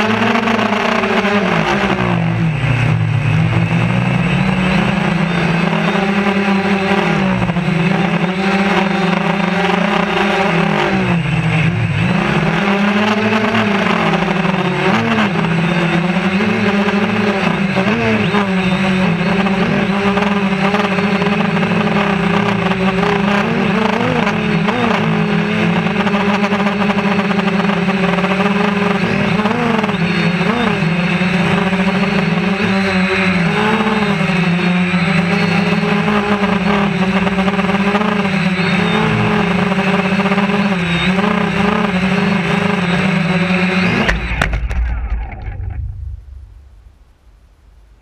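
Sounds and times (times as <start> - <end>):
drone propellers whirring: 0.0 - 47.3.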